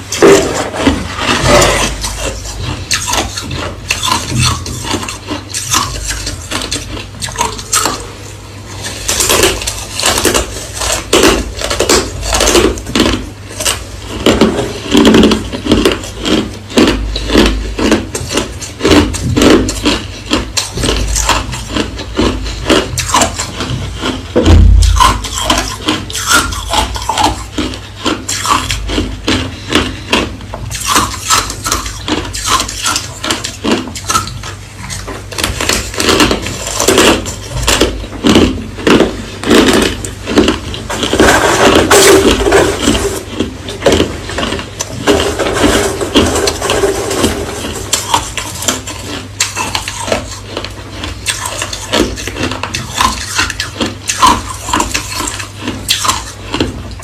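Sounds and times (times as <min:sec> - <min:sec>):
crushed ice being chewed: 0:00.0 - 0:57.0.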